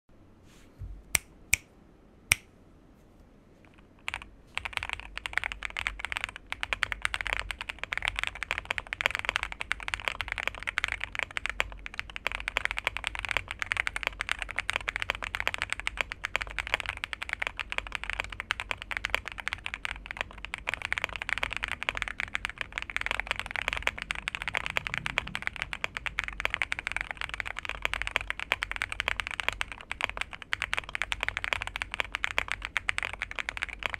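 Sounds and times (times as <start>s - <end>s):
mechanical keyboard typing: 4.0s - 33.9s.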